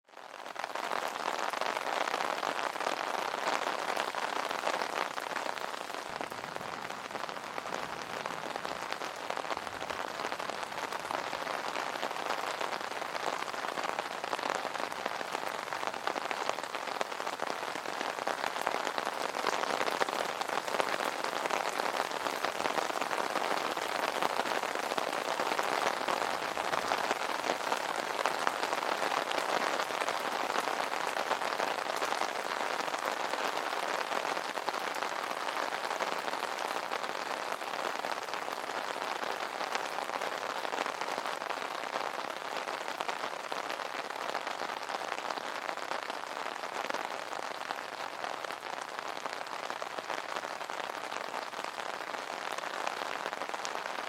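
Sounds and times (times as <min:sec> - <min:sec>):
rain on an umbrella: 0:00.0 - 0:54.0.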